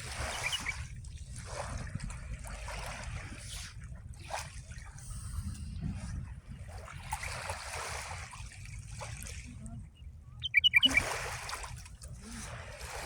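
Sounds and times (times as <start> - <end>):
seawater lapping and splashing: 0.0 - 13.0.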